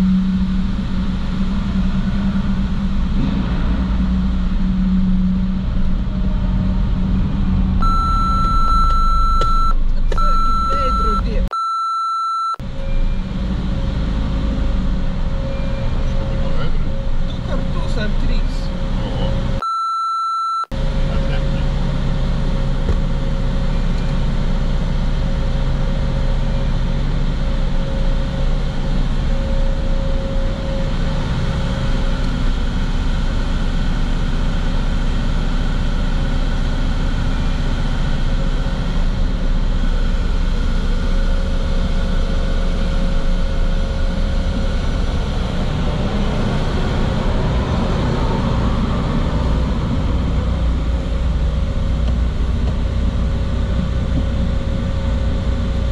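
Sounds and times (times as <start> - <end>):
vehicle engine rumbling: 0.0 - 11.6, 12.4 - 19.7, 20.7 - 55.9.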